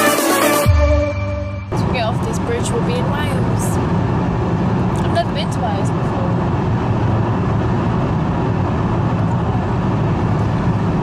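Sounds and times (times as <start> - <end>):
car road and engine rumble: 1.5 - 11.0.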